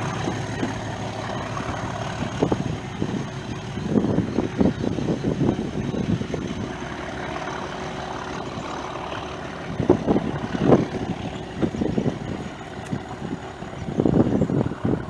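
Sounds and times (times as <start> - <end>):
diesel locomotive engine: 0.0 - 15.0
low buffets: 0.0 - 15.0.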